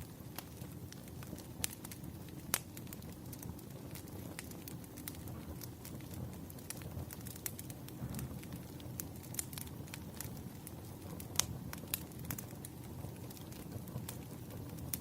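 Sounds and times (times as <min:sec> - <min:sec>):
flames rumbling: 0:00.0 - 0:15.0
wood fire crackling: 0:00.0 - 0:15.0.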